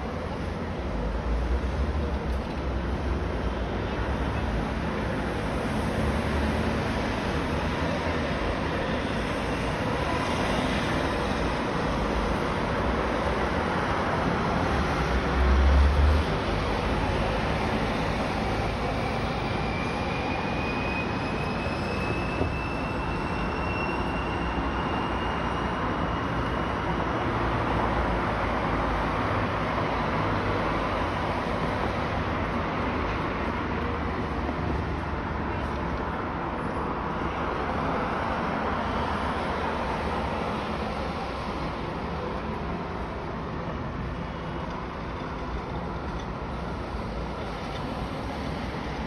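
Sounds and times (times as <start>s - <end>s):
city noise hiss: 0.0s - 49.0s.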